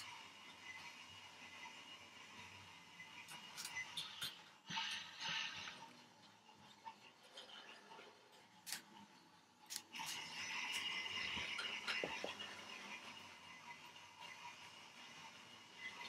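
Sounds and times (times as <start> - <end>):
toy train motor whirring: 0.0 - 6.0, 6.8 - 16.0.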